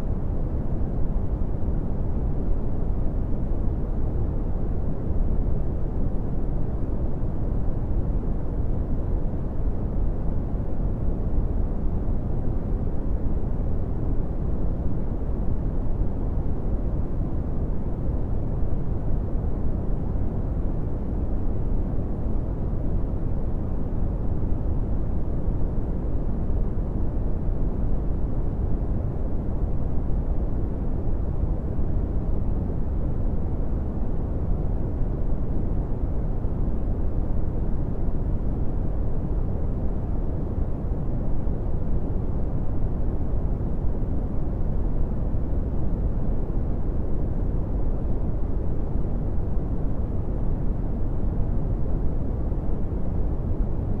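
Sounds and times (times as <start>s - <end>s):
brown noise rumbling hiss: 0.0s - 54.0s.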